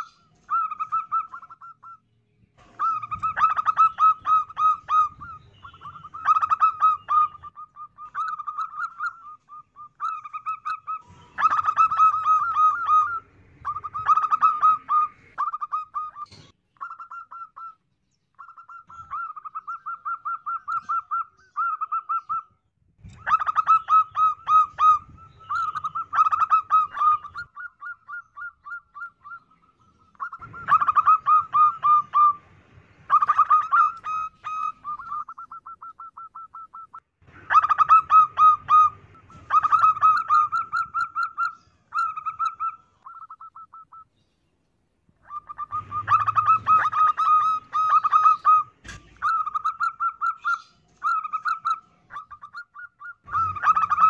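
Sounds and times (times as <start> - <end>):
dove cooing trills: 0.0 - 2.0, 2.6 - 44.1, 45.2 - 54.0.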